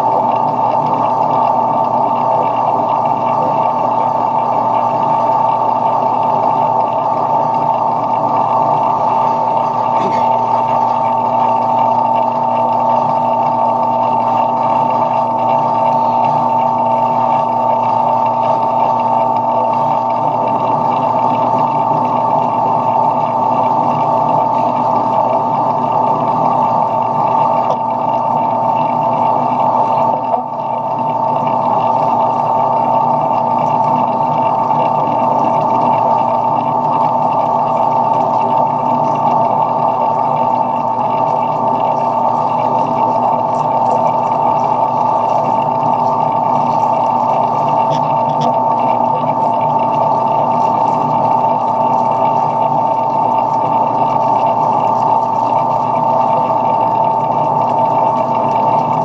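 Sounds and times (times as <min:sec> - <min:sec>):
metal lathe whining: 0:00.0 - 0:59.0.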